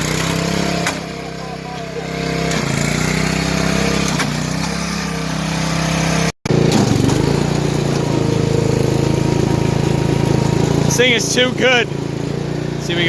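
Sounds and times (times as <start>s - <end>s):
riding mower engine running: 0.0s - 13.0s.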